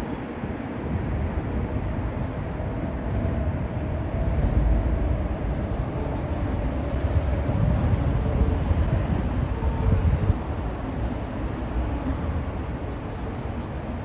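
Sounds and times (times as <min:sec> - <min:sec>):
low rumble of vehicles: 0:00.0 - 0:14.0.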